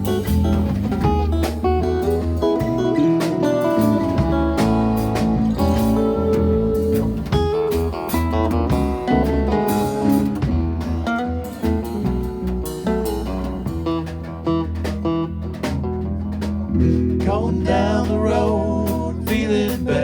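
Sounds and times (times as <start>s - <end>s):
electric guitar: 0.0s - 20.0s
live band playing: 0.0s - 20.0s.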